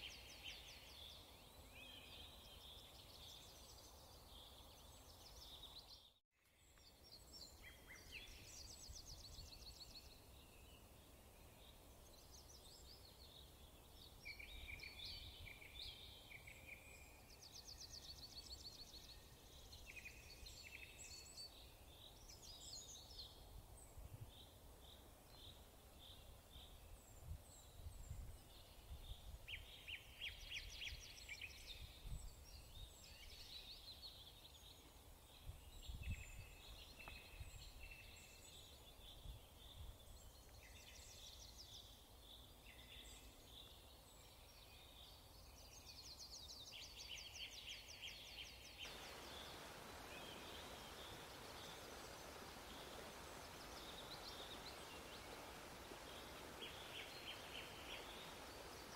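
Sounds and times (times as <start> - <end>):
faint songbirds chirping: 0.0 - 58.9.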